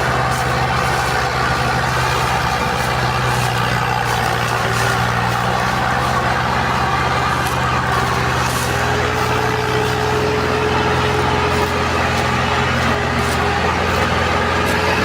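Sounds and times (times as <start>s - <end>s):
diesel engine running: 0.0s - 15.0s
thin machine whine: 0.0s - 15.0s.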